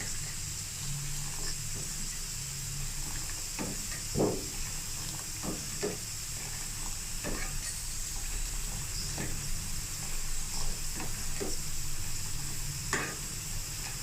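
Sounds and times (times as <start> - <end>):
boiling tea hissing: 0.0 - 14.0.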